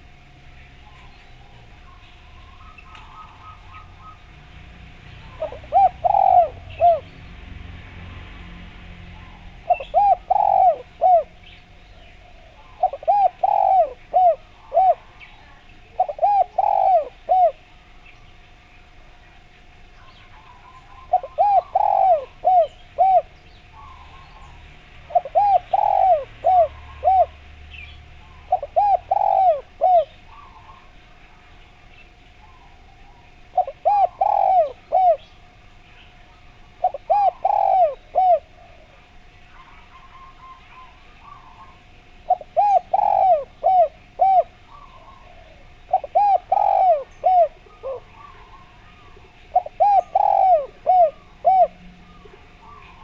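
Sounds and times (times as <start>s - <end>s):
dove cooing: 0.0s - 7.3s, 8.9s - 53.0s
small birds chirping: 0.0s - 53.0s.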